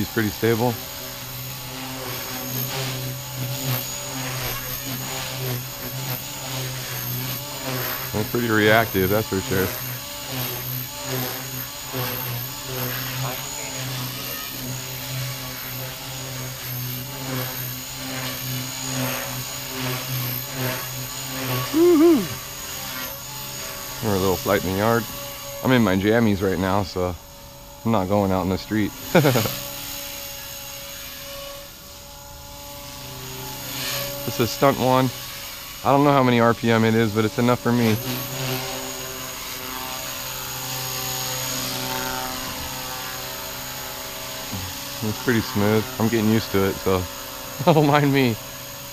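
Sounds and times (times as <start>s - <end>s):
electric motor whine: 0.0s - 48.9s
rc helicopter rotor buzz: 0.0s - 48.9s.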